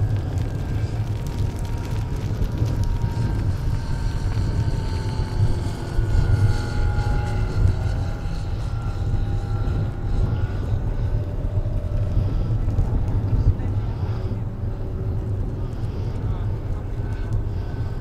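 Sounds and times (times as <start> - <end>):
low rumble: 0.0 - 18.0
model plane engine droning: 0.0 - 18.0.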